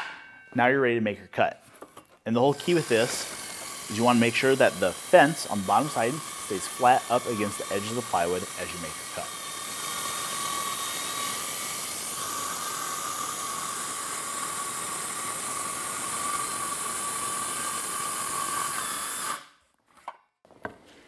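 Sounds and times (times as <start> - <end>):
circular saw cutting plywood: 2.4 - 19.6.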